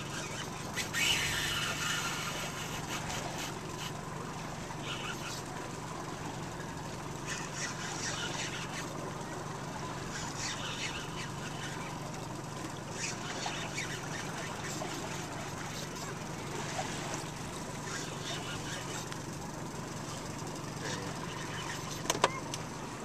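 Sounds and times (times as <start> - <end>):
boat engine running: 0.0 - 23.0
water noise: 0.0 - 23.0
wind: 0.0 - 23.0.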